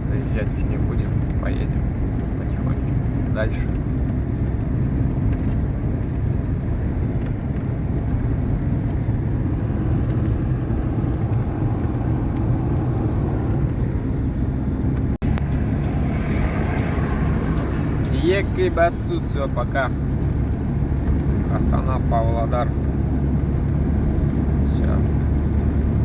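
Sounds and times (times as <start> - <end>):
van engine and road noise: 0.0 - 26.0.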